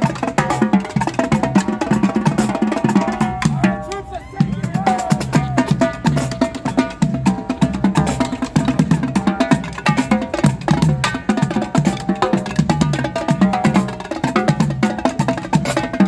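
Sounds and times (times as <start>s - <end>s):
marching drumline cadence: 0.0s - 16.0s.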